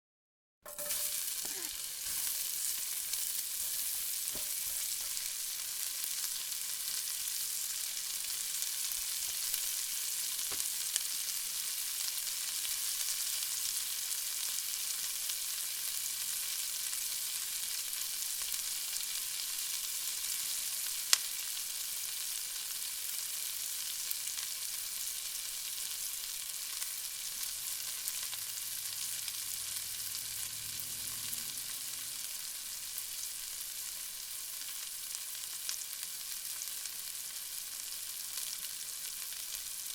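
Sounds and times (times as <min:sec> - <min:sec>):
onions sizzling in oil: 0:00.7 - 0:39.9.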